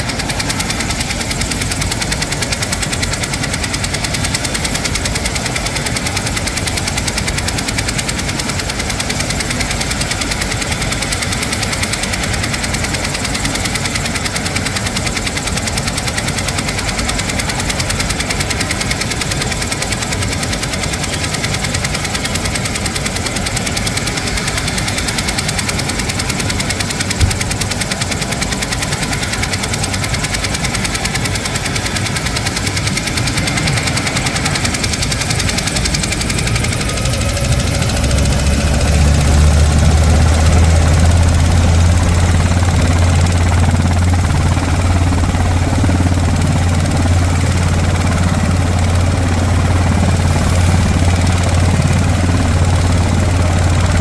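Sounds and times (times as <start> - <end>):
helicopter rotor and turbine running: 0.0 - 54.0.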